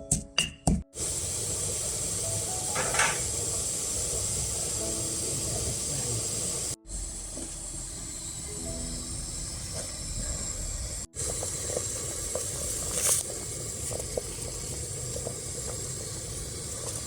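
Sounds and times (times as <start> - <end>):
food sizzling: 0.9 - 17.0.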